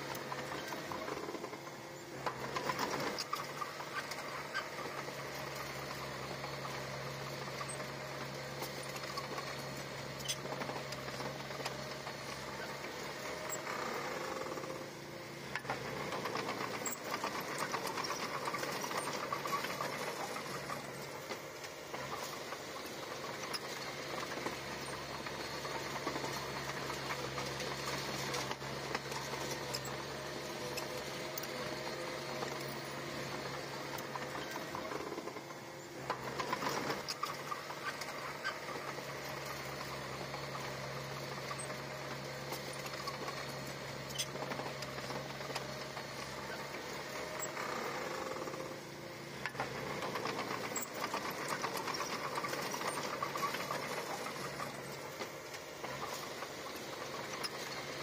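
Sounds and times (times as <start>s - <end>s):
bulldozer diesel engine clattering: 0.0s - 58.0s.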